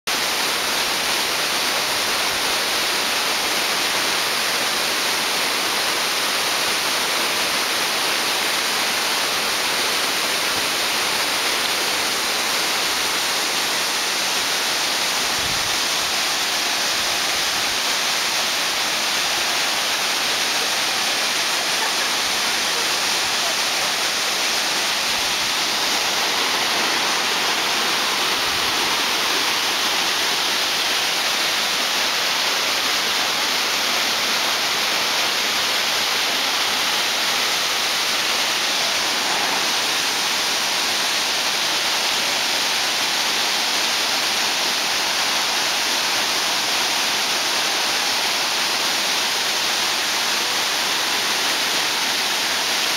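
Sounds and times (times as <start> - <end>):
waterfall rushing: 0.1 - 52.9.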